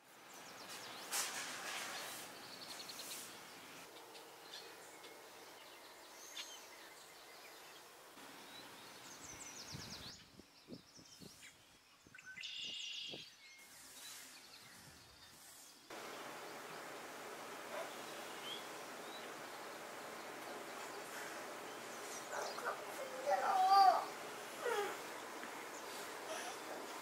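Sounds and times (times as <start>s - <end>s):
steady hiss: 0.0s - 10.6s, 13.6s - 27.0s
birds chirping and calling: 1.8s - 27.0s.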